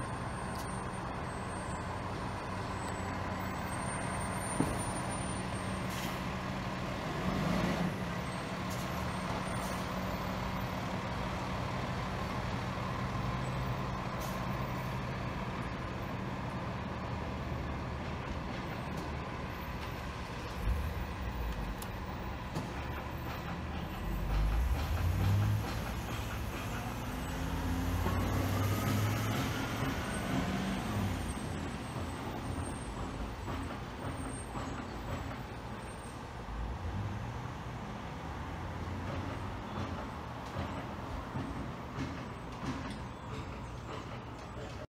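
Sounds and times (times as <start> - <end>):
truck engines idling: 0.0 - 44.9.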